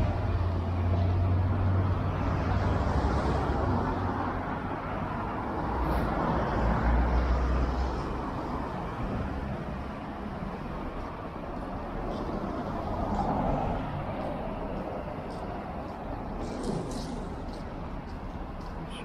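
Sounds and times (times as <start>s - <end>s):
road noise: 0.0s - 19.0s
vehicles passing: 0.0s - 19.0s.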